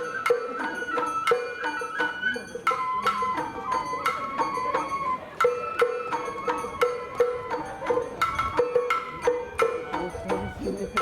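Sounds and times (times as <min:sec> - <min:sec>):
festival ensemble struck notes: 0:00.0 - 0:11.0.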